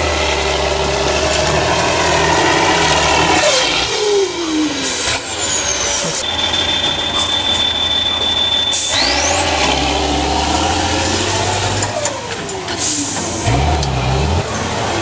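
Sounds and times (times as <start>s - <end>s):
diesel truck engine revving: 0.0s - 7.4s, 8.1s - 15.0s.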